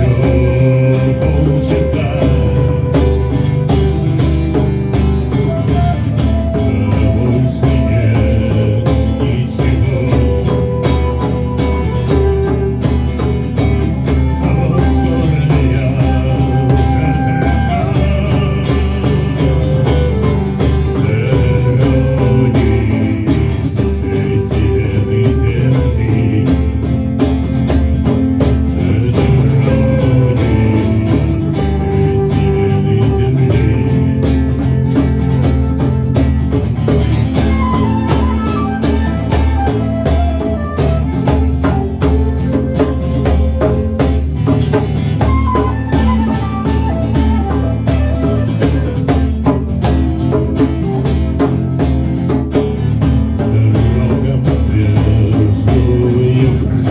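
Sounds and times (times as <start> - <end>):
guitars: 0.0 - 56.9
live band playing: 0.0 - 56.9.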